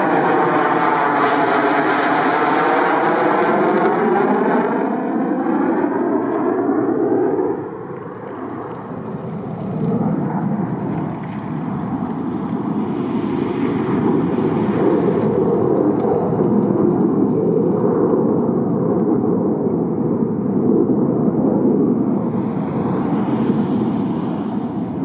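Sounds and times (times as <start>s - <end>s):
jet engines rumbling overhead: 0.0s - 25.0s.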